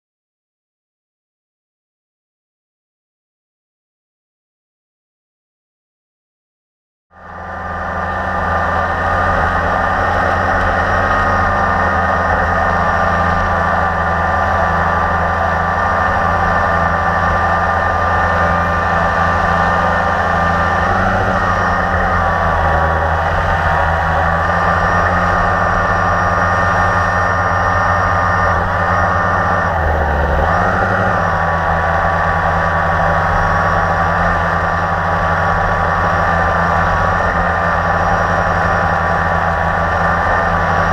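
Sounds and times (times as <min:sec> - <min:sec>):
quadcopter motors humming: 0:07.2 - 0:40.9.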